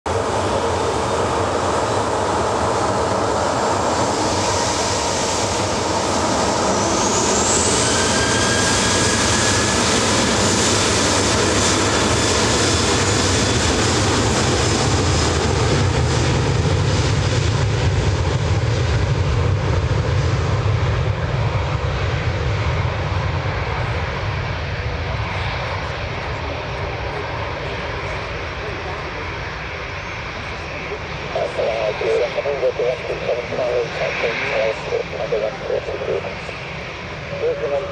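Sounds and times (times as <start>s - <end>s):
jet engine heavy low rumble: 0.1s - 37.9s
jet engine whine rising: 0.1s - 37.9s.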